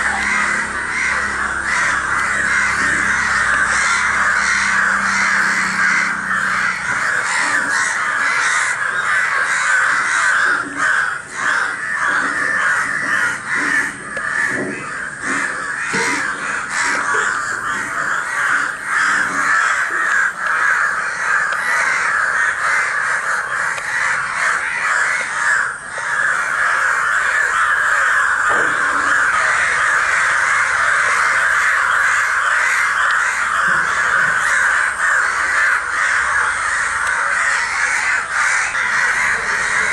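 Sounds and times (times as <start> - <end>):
crows cawing: 0.0 - 39.9.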